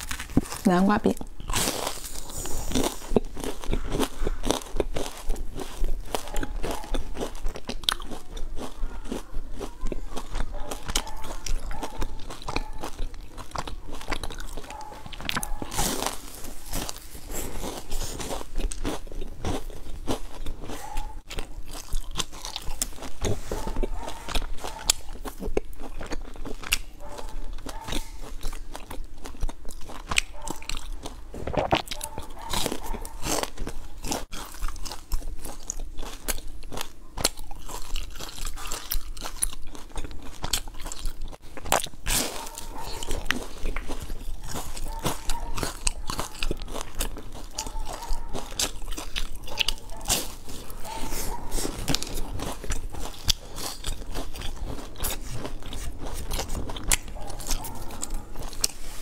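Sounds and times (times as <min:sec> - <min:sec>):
crunching crisp pastry: 0:00.0 - 0:59.0
wet mouth sounds: 0:00.0 - 0:59.0.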